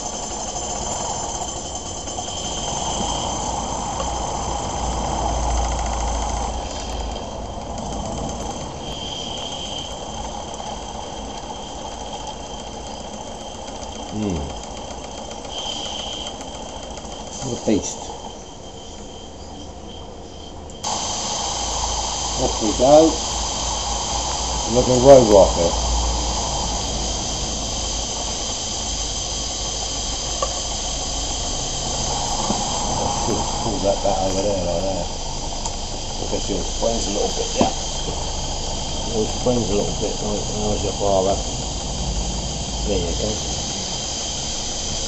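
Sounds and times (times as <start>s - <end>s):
steam engine ticking: 0.0s - 45.0s
steam hiss: 0.0s - 45.0s.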